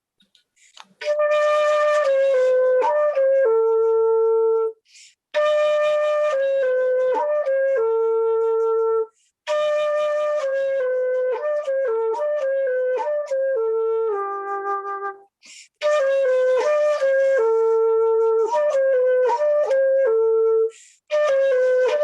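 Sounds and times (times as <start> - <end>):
solo flute melody: 0.6 - 22.0.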